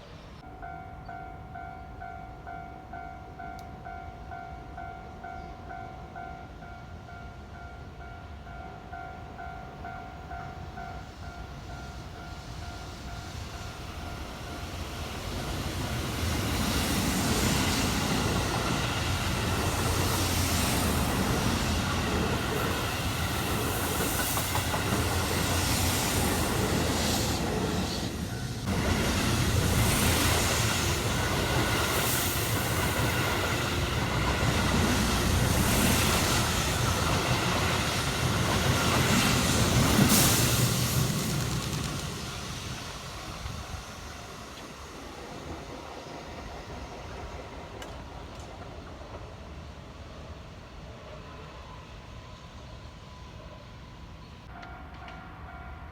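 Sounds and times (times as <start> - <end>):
electric train passing: 0.0 - 55.9.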